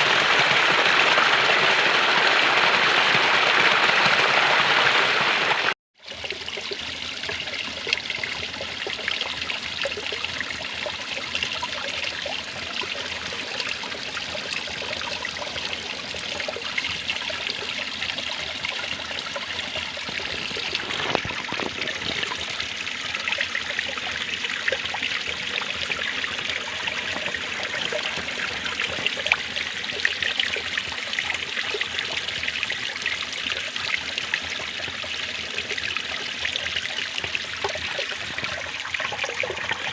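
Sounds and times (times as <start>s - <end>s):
water trickling in stream: 6.0s - 39.9s.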